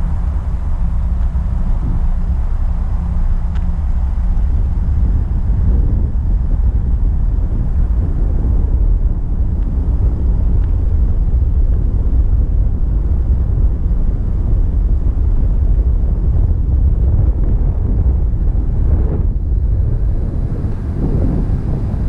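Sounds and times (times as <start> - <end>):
car interior engine and road noise: 0.0 - 22.0.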